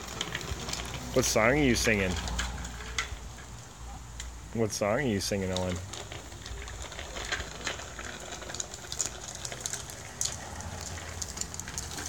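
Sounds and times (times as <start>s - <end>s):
bicycle wheels rattling on concrete: 0.0s - 12.0s.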